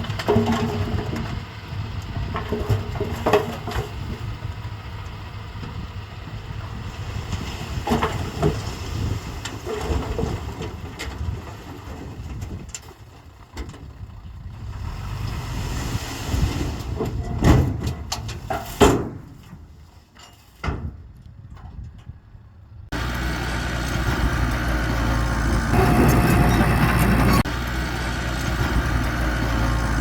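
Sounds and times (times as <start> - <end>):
bulldozer diesel engine rumbling: 0.0 - 30.0.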